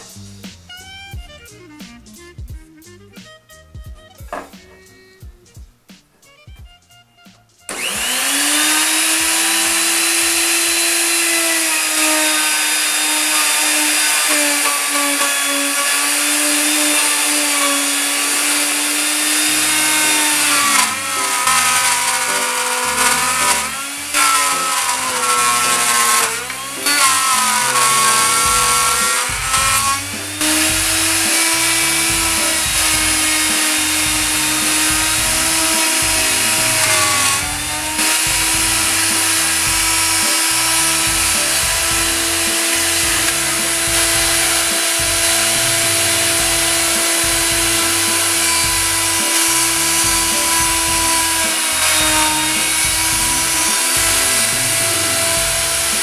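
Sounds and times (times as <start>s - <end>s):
router cutting a board: 7.7s - 56.0s
wood router whining: 7.7s - 56.0s.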